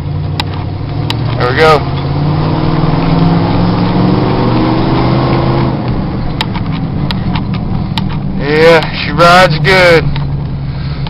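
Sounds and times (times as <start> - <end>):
truck engine under throttle: 0.0 - 11.0.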